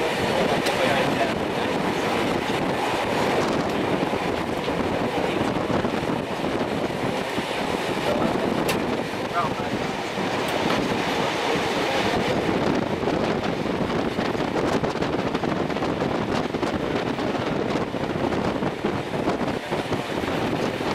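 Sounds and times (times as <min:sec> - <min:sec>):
train running noise: 0:00.0 - 0:20.9
wind buffeting microphone: 0:00.0 - 0:20.9.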